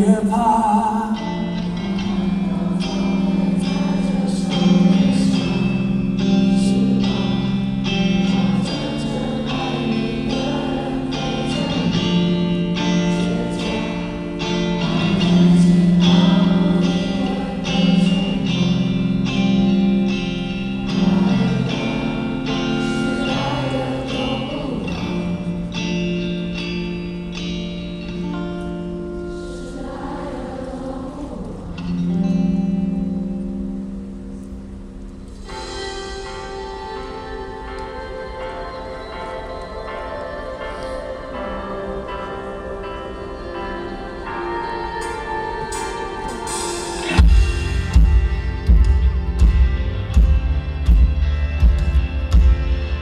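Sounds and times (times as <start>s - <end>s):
person singing: 0.0s - 33.8s, 35.5s - 50.3s
live rock band playing: 1.3s - 28.8s, 35.2s - 40.6s, 43.4s - 53.0s.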